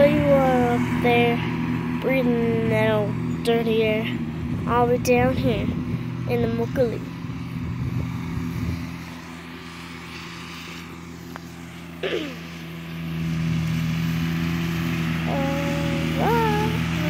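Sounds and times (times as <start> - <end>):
distant mower engine running: 0.0 - 17.0.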